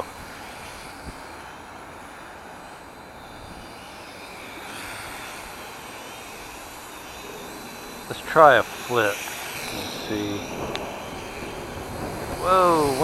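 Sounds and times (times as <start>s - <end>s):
drone propellers whirring: 0.0s - 13.0s
wind buffeting microphone: 0.0s - 13.0s.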